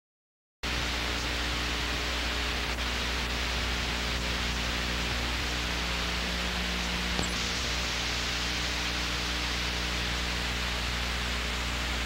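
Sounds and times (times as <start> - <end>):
low electrical hum: 0.7 - 12.0
tape hiss: 0.7 - 12.0.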